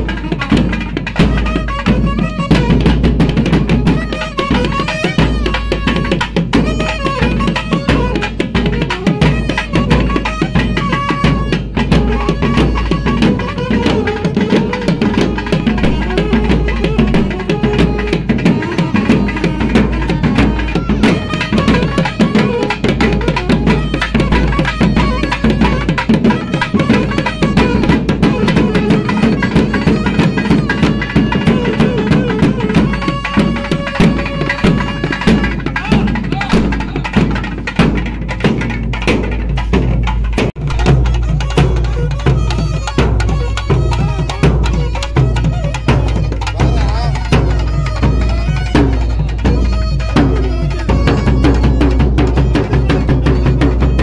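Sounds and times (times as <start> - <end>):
fast dense drumming: 0.0 - 54.0.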